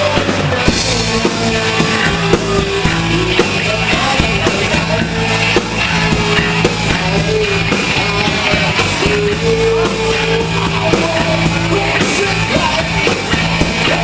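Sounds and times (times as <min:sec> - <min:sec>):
bass guitar: 0:00.0 - 0:14.0
distorted electric guitar: 0:00.0 - 0:14.0
drum kit hits: 0:00.0 - 0:14.0.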